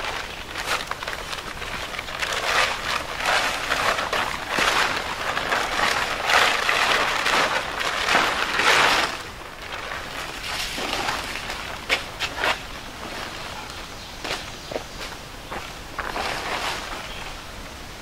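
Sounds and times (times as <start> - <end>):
plastic tarp crinkling: 0.0 - 14.5, 15.8 - 18.0.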